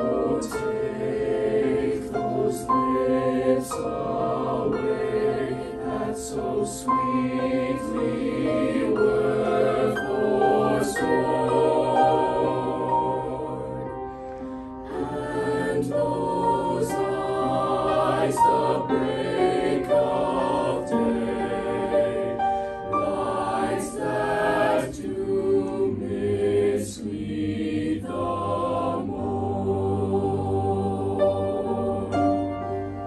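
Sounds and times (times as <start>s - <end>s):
choir singing in harmony: 0.0s - 33.0s.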